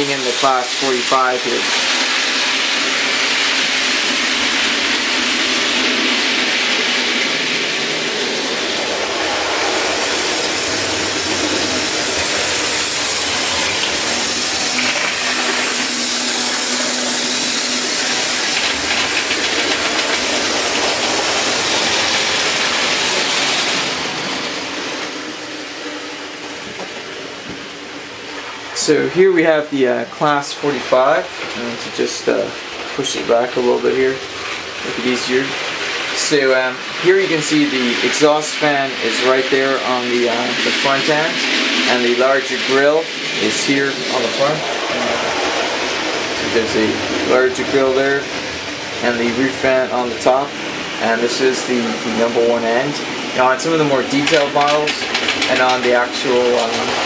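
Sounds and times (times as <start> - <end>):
model train running on track: 0.0 - 25.1, 29.2 - 57.0.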